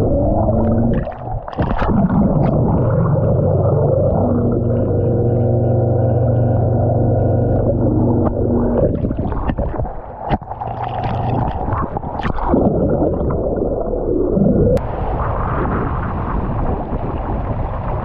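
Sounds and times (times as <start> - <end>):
water churning and splashing: 0.0 - 14.8
muffled underwater motor hum: 0.0 - 15.2
water rushing and wind: 0.0 - 18.0.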